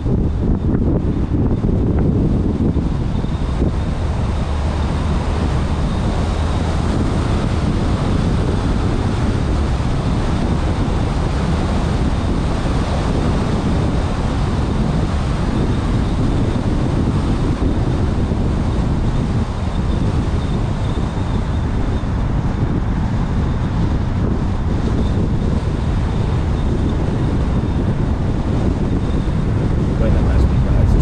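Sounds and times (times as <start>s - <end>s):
car road and wind rumble: 0.0s - 31.0s.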